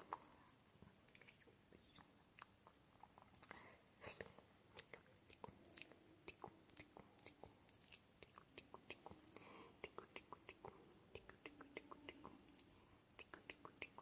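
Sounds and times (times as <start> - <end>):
tongue and lip clicks: 1.0 - 14.0.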